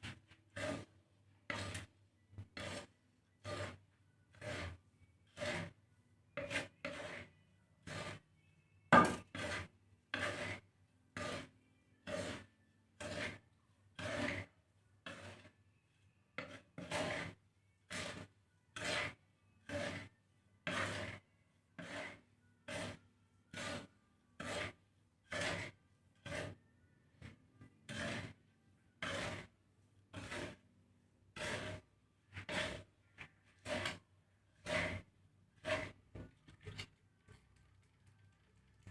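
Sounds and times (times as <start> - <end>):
spatula scraping grain in pan: 0.0 - 38.9.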